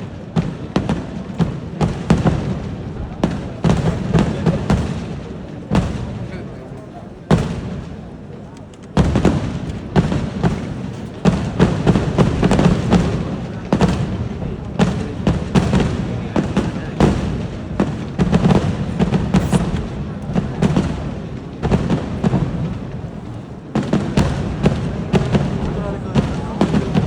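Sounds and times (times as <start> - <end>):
firecracker bangs and booms: 0.0 - 6.3, 7.3 - 8.0, 9.0 - 27.0.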